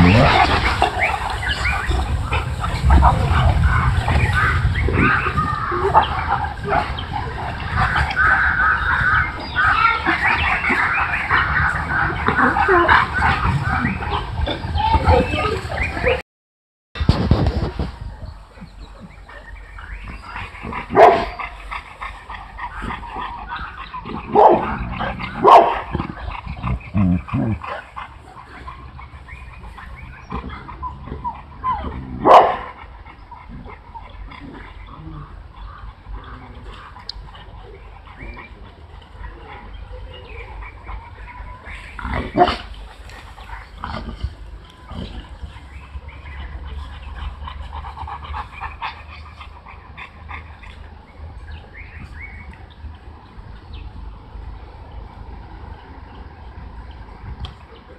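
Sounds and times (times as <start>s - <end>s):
dogs barking: 0.0s - 16.2s, 18.9s - 54.9s.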